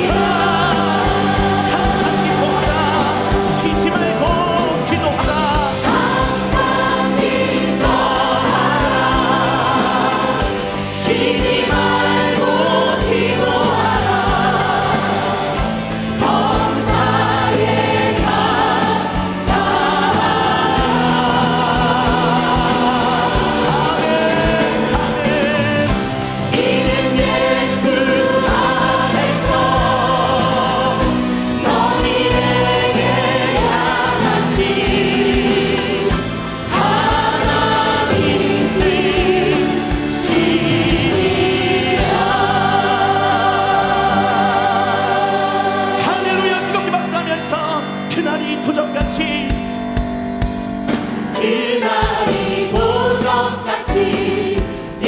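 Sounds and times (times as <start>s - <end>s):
choir and congregation singing hymn: 0.0s - 55.0s
instrumental accompaniment: 0.0s - 55.0s.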